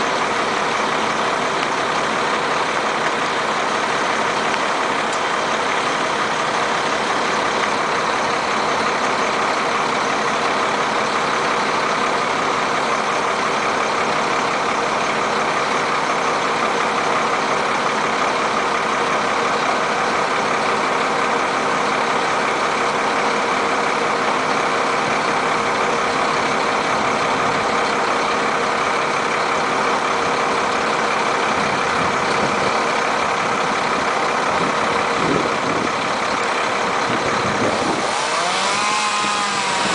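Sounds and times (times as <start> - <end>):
crane engine running: 0.0 - 39.9.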